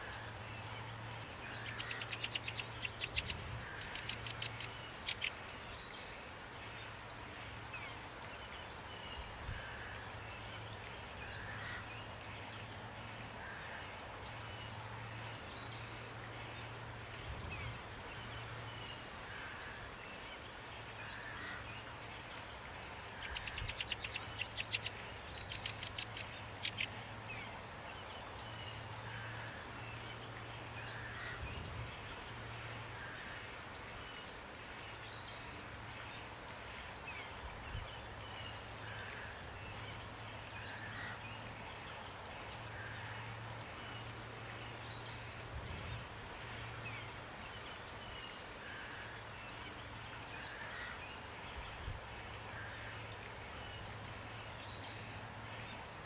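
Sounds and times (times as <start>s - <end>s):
songbirds chirping: 0.0s - 56.0s
steady rain hiss: 0.0s - 56.0s.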